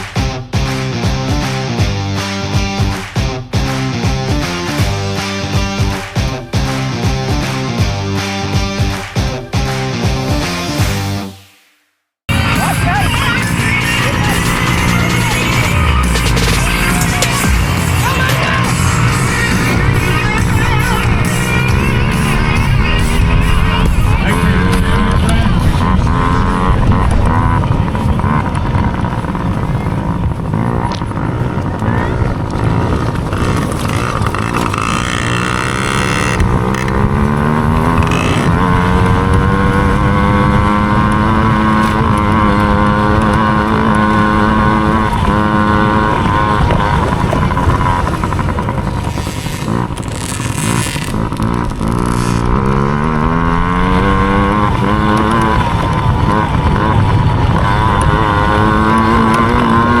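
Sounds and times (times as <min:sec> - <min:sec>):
dirt bike engine revving: 0:00.0 - 0:11.3, 0:12.3 - 1:00.0.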